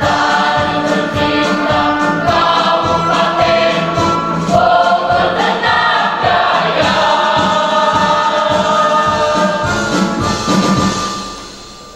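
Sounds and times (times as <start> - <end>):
choir singing a march: 0.0 - 11.2
marching accompaniment: 0.0 - 11.9.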